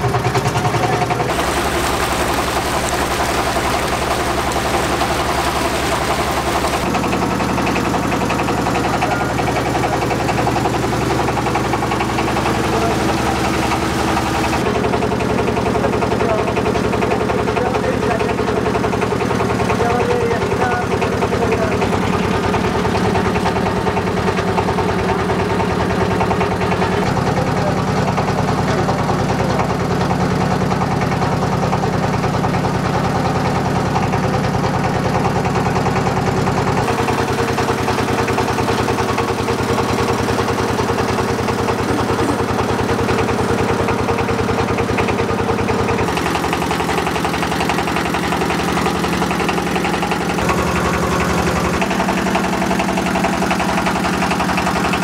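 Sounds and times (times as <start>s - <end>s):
boat motor chugging: 0.0s - 55.0s.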